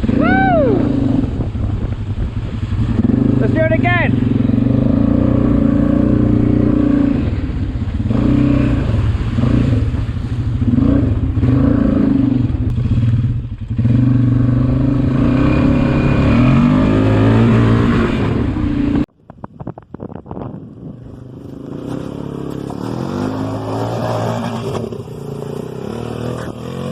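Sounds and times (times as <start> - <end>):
atv engine revving: 0.0 - 19.1, 20.8 - 26.9.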